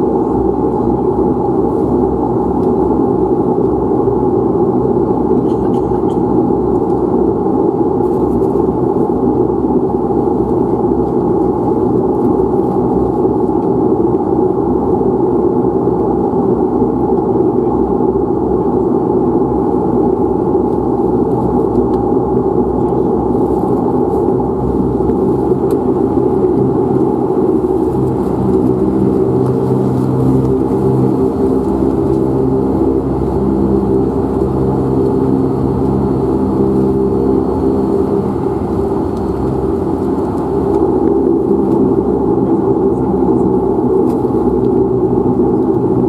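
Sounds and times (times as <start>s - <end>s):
turboprop engine idling drone: 0.0s - 46.0s.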